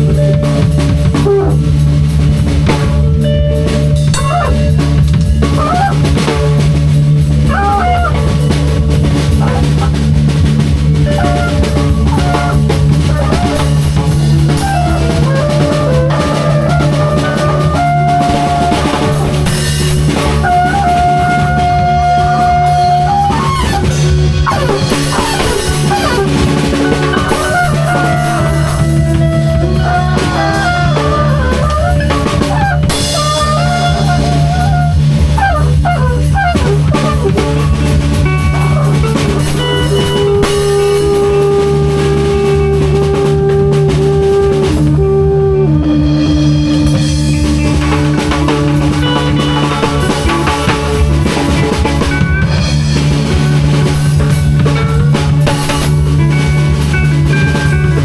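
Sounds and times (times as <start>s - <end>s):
drum kit beat: 0.0s - 58.0s
guitar lead with pitch bends: 0.0s - 58.0s.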